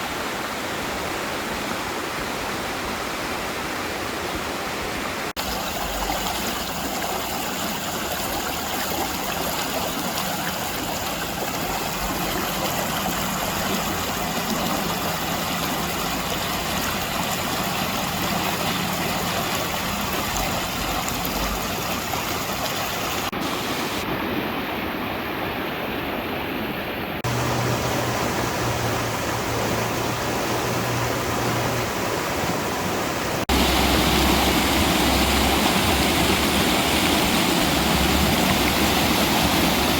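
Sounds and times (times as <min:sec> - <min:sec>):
creek water rushing over rock: 0:00.0 - 0:39.9.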